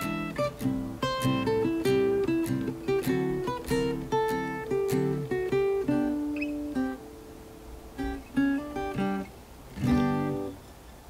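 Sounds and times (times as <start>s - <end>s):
strummed guitar chord: 0.0s - 10.6s
acoustic guitar picking notes: 0.0s - 10.7s.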